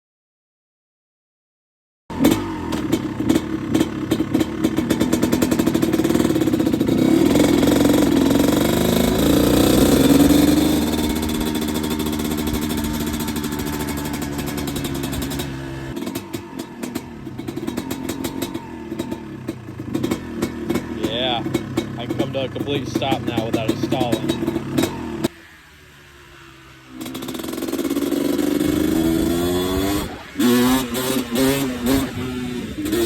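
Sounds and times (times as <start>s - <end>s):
dirt bike engine revving: 2.1s - 33.0s.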